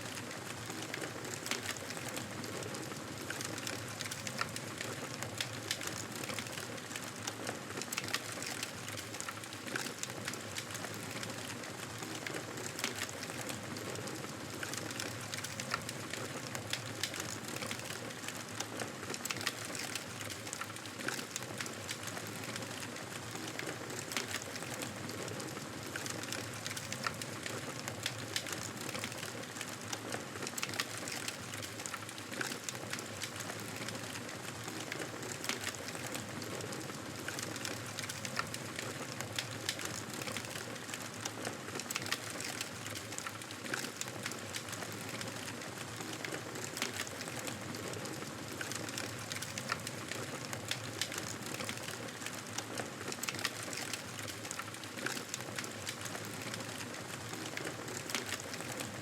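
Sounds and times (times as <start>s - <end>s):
campfire crackling: 3.2s - 59.0s.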